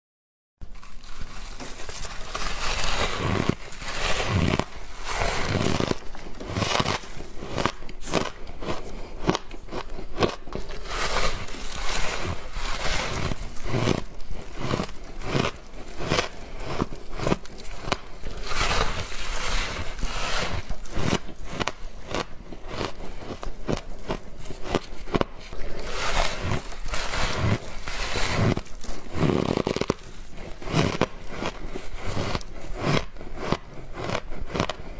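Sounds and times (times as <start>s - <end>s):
chewing crunchy ice: 0.6s - 34.9s.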